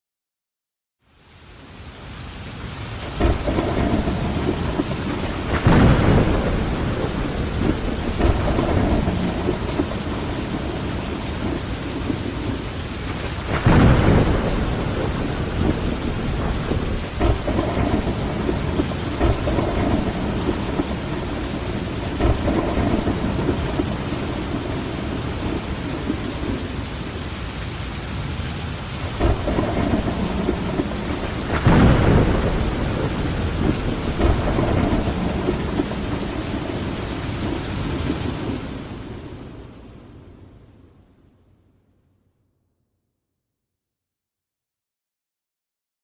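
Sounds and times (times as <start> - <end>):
rain on window glass: 1.0 - 40.3
thunder rumbling: 2.8 - 40.6.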